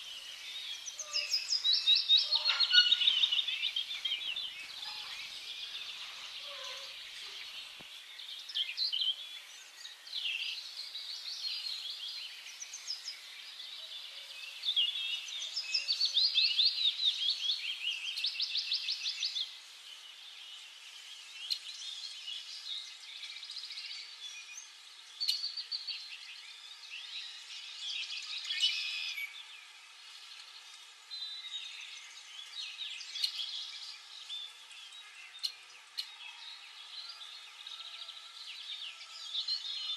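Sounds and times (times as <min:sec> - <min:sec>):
cage birds chirping: 0:00.0 - 0:39.9.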